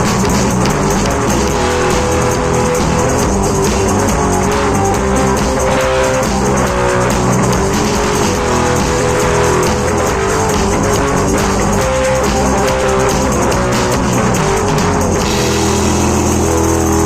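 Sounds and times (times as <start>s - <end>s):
instrumental rock music: 0.0s - 17.0s.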